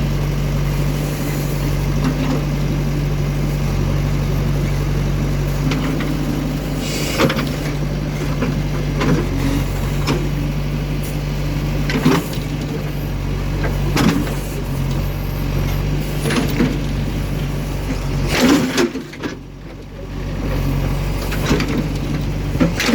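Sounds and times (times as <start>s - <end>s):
diesel engine running steadily: 0.0s - 22.9s.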